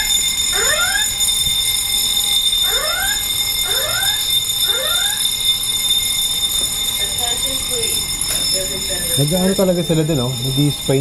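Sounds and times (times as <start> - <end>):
fire alarm whoop tones: 0.0 - 11.0
high-pitched alarm tone: 0.0 - 11.0.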